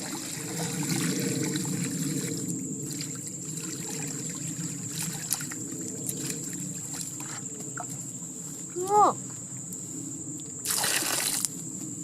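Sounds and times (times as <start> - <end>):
high insect drone: 0.0 - 12.0
water trickling and lapping: 0.0 - 12.0.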